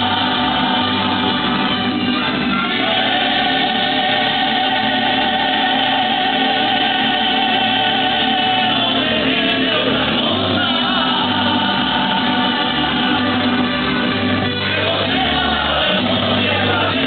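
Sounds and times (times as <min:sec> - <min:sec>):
guitars: 0:00.0 - 0:17.0
pulsing bass line: 0:00.0 - 0:17.0
violins: 0:00.0 - 0:17.0
voices singing together: 0:00.0 - 0:17.0.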